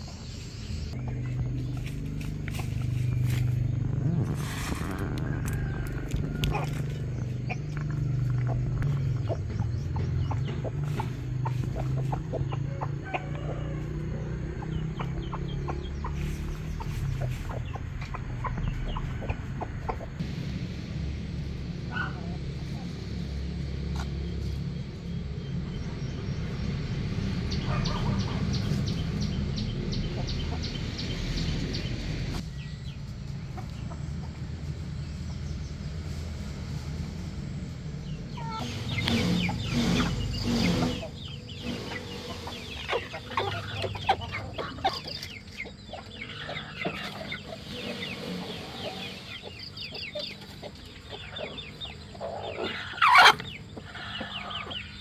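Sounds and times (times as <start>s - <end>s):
chickens clucking: 0.0s - 20.7s, 21.3s - 55.0s
low rumble: 0.0s - 51.9s.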